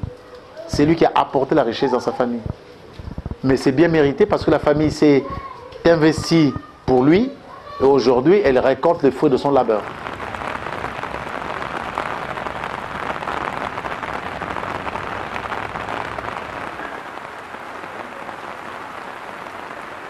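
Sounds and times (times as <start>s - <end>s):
steady rain falling: 0.0s - 7.6s, 8.5s - 20.0s.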